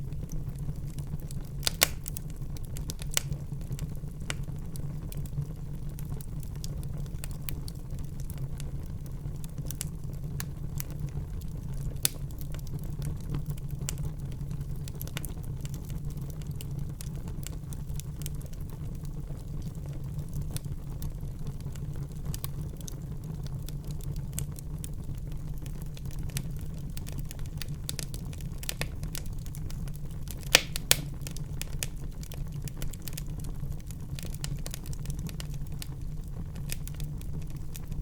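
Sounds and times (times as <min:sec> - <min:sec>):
low rumble of fire: 0:00.0 - 0:38.0
wood fire crackling: 0:00.0 - 0:38.0.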